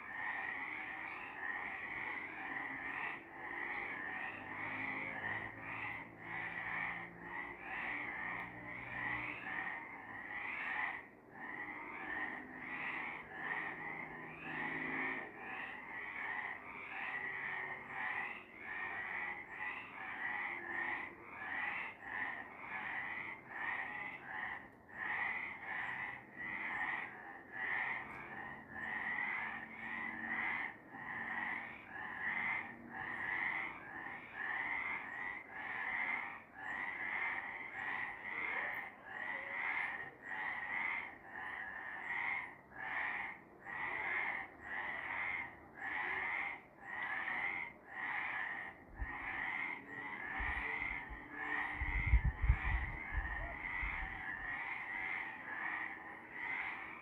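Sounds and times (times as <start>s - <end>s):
frogs calling: 0.0s - 57.0s.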